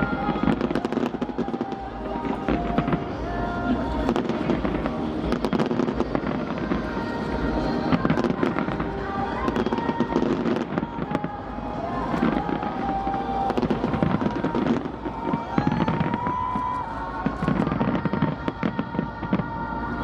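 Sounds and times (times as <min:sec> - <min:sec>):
fireworks bangs and crackles: 0:00.0 - 0:19.6.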